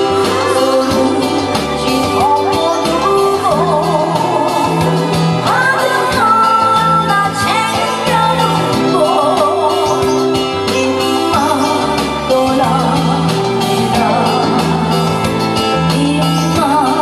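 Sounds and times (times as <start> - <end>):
amplified backing music: 0.0 - 17.0
woman singing into a microphone: 0.0 - 17.0.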